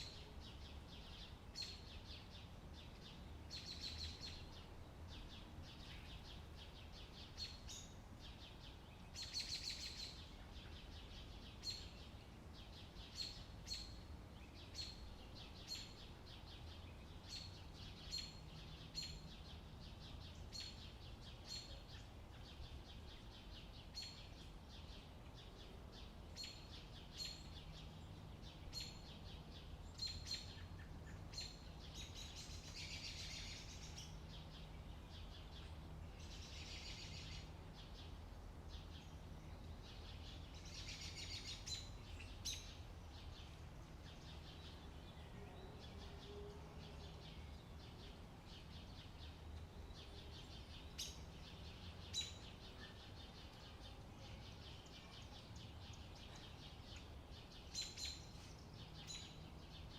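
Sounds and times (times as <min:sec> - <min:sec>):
birds chirping and trilling: 0:00.0 - 0:59.9
low outdoor rumble: 0:00.0 - 0:59.9.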